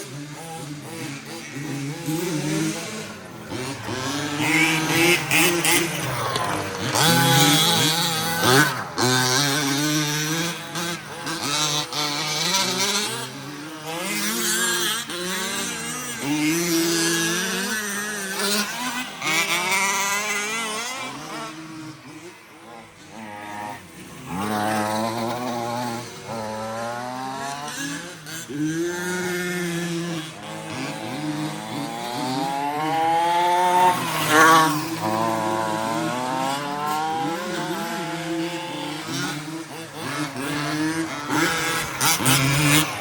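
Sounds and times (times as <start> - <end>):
rc truck motors whining: 0.0 - 21.9, 22.5 - 43.0.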